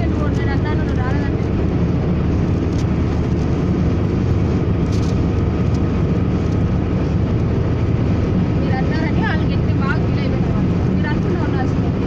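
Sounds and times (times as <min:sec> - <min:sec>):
car engine droning: 0:00.0 - 0:12.0
road and tyre noise: 0:00.0 - 0:12.0.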